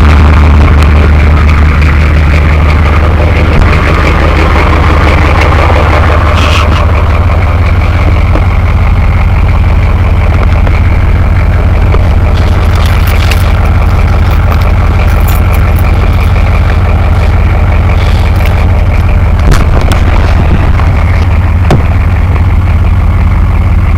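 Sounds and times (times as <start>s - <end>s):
diesel truck engine idling: 0.0s - 23.9s.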